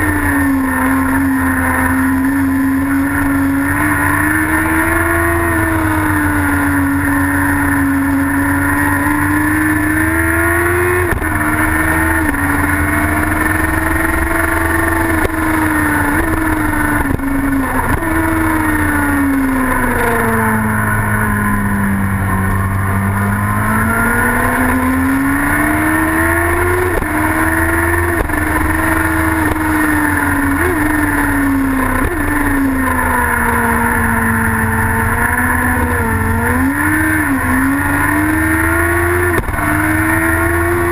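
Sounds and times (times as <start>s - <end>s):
racing engine running hard: 0.0s - 40.9s
wind and road noise: 0.0s - 40.9s.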